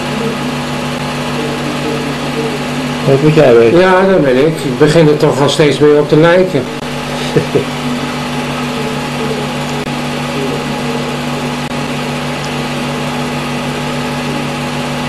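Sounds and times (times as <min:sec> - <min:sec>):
small motor humming and whirring: 0:00.0 - 0:05.2, 0:06.0 - 0:15.0.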